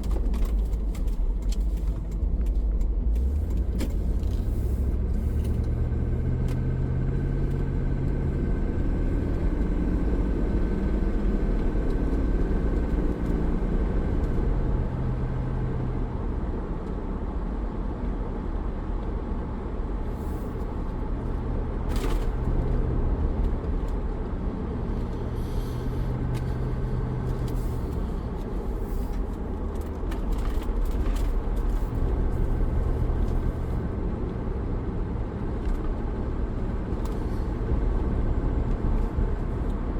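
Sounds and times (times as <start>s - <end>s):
car cabin drone: 0.0s - 39.9s.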